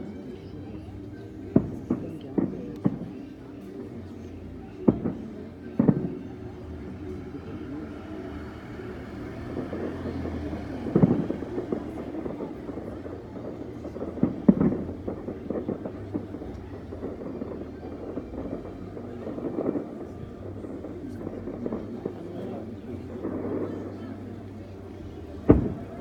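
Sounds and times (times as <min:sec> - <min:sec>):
fireworks popping: 0:00.0 - 0:26.0
low background noise: 0:00.0 - 0:26.0
fireworks booming: 0:00.8 - 0:26.0.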